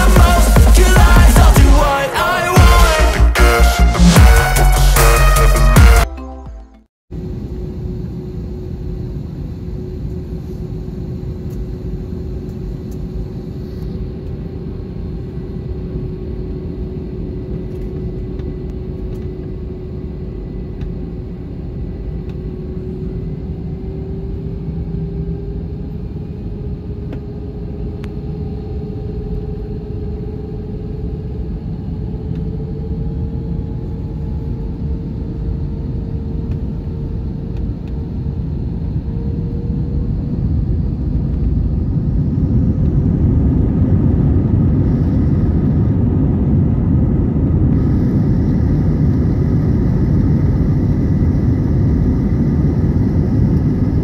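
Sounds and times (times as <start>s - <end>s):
jet engines whining: 0.0s - 6.1s, 7.2s - 54.0s.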